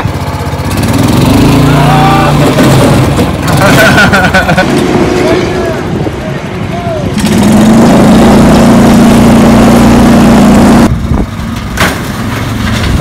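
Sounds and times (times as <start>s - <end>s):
engine running under hard throttle: 0.0s - 13.0s.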